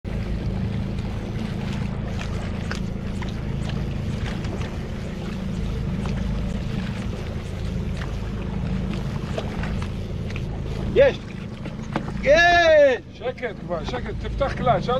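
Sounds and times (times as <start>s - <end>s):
boat engine humming: 0.0s - 14.9s.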